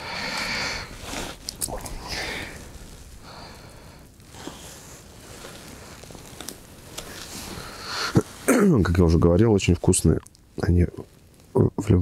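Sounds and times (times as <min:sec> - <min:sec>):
rustling and handling noise: 0:00.9 - 0:11.5.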